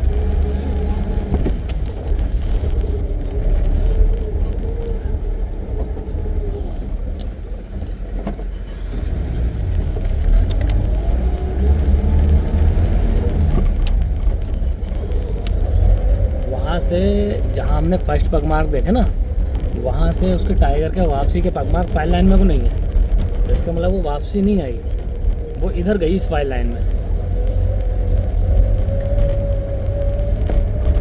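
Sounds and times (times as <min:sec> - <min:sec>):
vehicle engine running: 0:00.0 - 0:31.0
vehicle knocks and rattles: 0:00.0 - 0:31.0.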